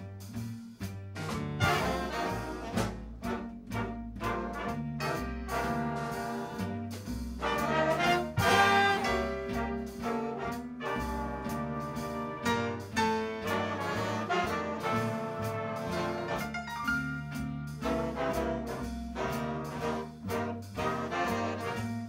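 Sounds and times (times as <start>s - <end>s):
jazz big band playing swing: 0.0s - 22.0s.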